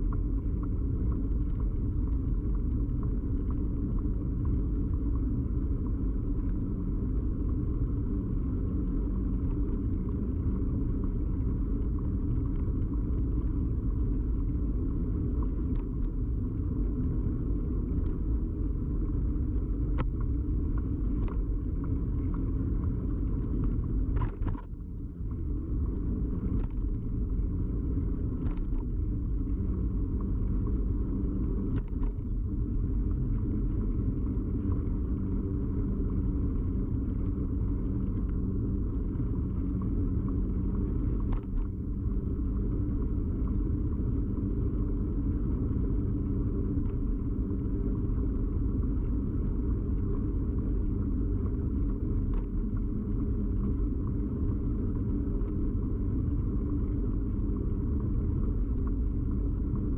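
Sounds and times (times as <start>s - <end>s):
bicycle rumble: 0.0s - 59.9s.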